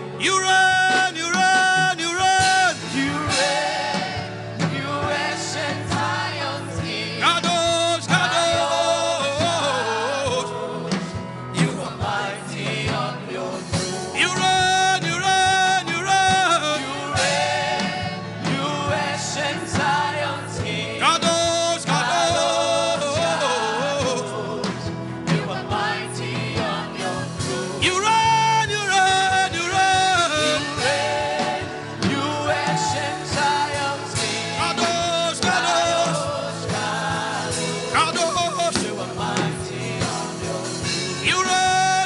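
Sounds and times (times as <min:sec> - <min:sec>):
instrumental accompaniment: 0:00.0 - 0:42.0
voices singing gospel song: 0:00.0 - 0:42.0.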